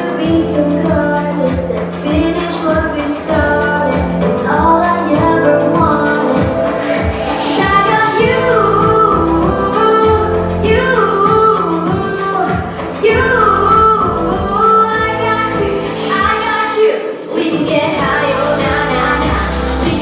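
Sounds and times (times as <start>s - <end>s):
pop music with steady beat: 0.0s - 20.0s
woman singing into microphone: 0.0s - 20.0s.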